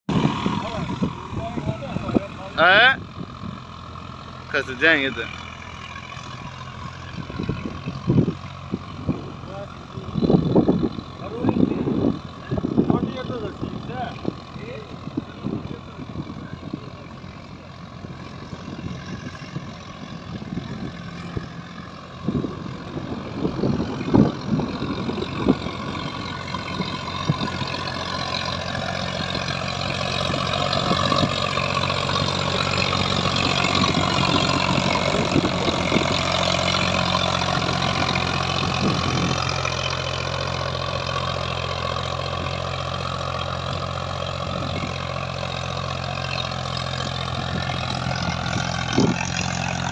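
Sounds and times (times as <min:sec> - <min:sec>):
tractor diesel engine running: 0:00.1 - 0:49.9.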